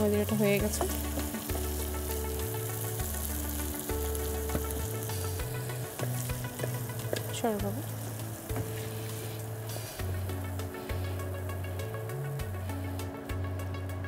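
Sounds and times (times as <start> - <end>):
fish sizzling in a frying pan: 0.0 - 13.8.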